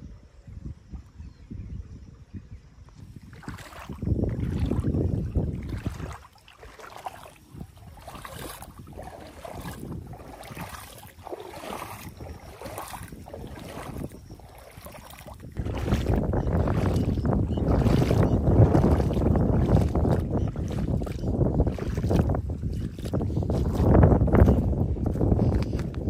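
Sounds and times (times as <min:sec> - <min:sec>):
wind buffeting microphone: 0:00.0 - 0:26.0
footsteps sloshing through water: 0:02.8 - 0:26.0.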